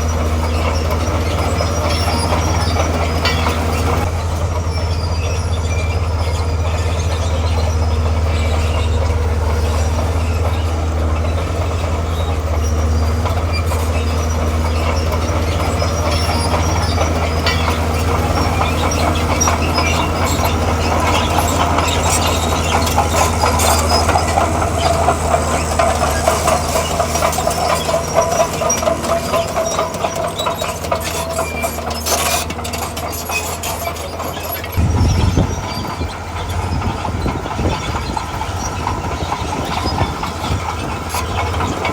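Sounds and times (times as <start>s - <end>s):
bulldozer diesel engine droning: 0.0s - 41.9s
steel tracks clanking: 0.0s - 41.9s.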